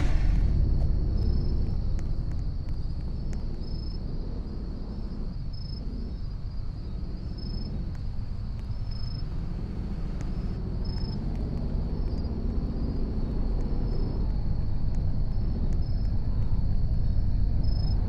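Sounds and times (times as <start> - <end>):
car engine rumbling: 0.0 - 18.0
insects chirping: 0.0 - 18.0.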